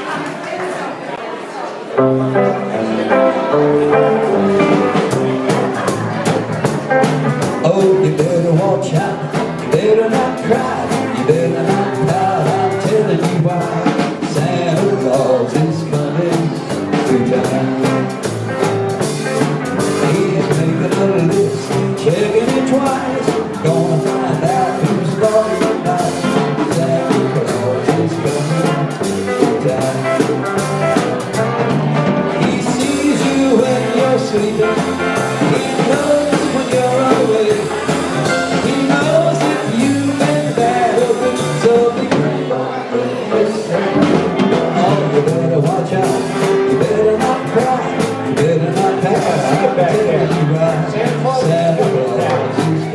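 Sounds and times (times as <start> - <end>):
live rock and roll band: 2.0 - 52.9
drum kit beat: 2.2 - 52.9.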